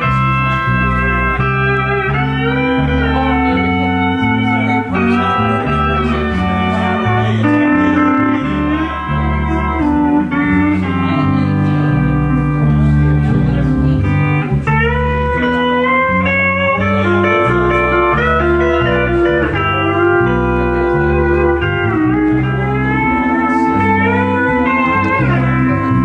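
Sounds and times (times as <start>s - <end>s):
low bass notes: 0.0s - 26.0s
pedal steel guitar: 0.0s - 26.0s.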